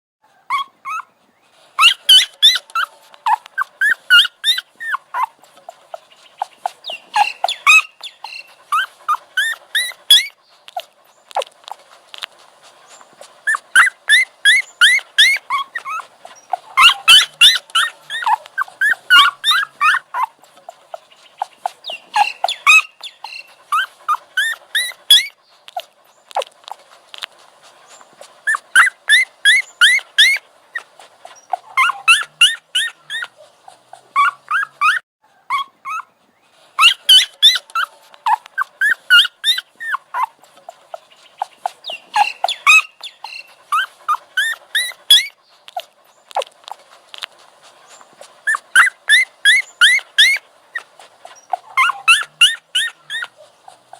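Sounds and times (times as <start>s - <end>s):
puppy whimpering and yipping: 0.4s - 1.2s, 1.8s - 11.8s, 12.8s - 26.9s, 27.8s - 46.9s, 47.8s - 53.9s.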